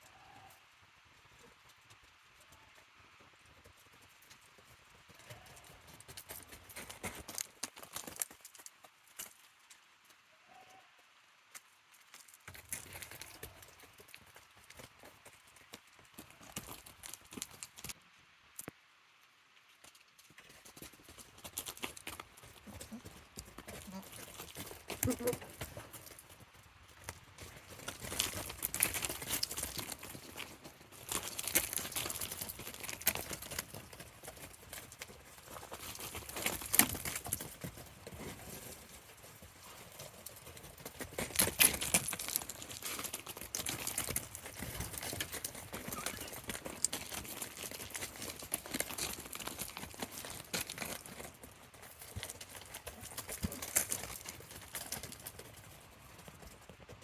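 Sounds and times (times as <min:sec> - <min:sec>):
goat hooves clattering: 0:00.0 - 0:10.6, 0:11.5 - 0:18.0, 0:19.6 - 0:57.0.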